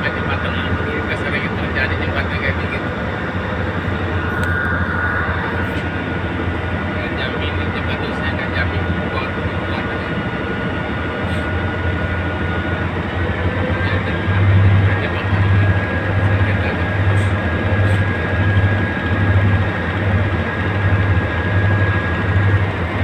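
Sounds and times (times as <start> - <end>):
diesel engine throbbing: 0.0 - 23.0
faint steady whine: 0.0 - 23.0.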